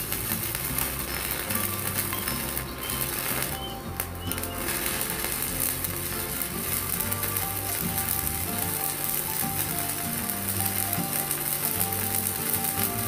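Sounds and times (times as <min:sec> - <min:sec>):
arc welding sizzling crackle: 0:00.0 - 0:13.0.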